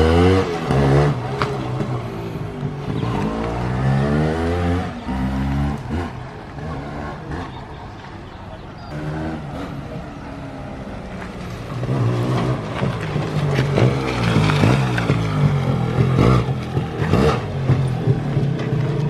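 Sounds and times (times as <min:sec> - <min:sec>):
two-stroke motorcycle engine revving: 0:00.0 - 0:07.8, 0:08.9 - 0:10.6, 0:11.8 - 0:19.0.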